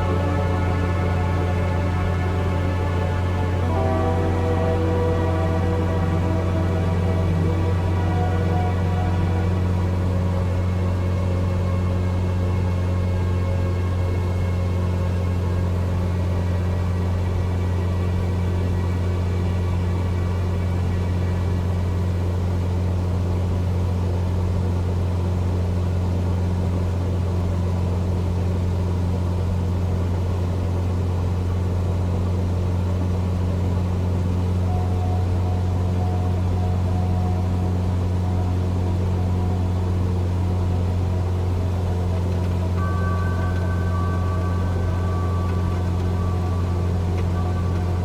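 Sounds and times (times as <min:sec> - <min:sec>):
airplane engine droning: 0:00.0 - 0:48.0.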